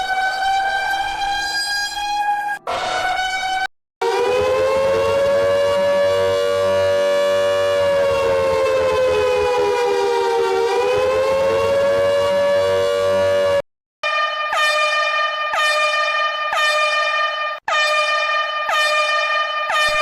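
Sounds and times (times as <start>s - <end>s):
emergency siren two-note wail: 0.0s - 20.0s.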